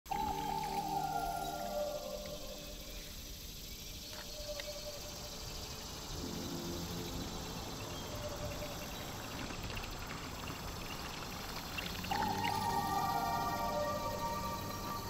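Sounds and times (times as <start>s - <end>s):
soft background music: 0.1s - 15.0s
steady hiss: 0.1s - 15.0s.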